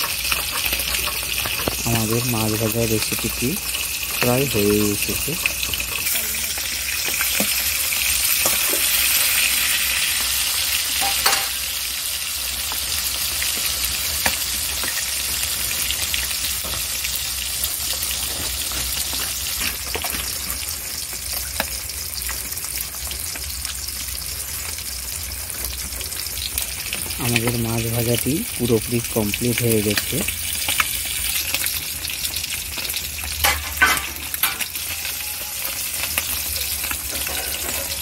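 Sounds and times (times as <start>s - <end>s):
fish sizzling in hot oil: 0.0s - 38.0s.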